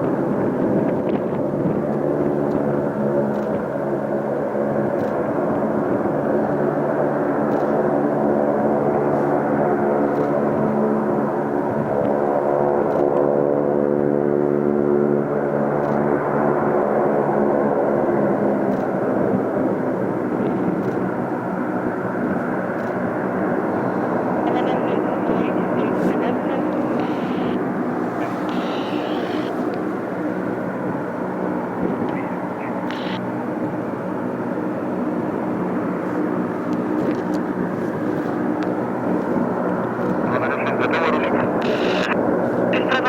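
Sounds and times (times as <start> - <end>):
turboprop engines droning: 0.0 - 43.0.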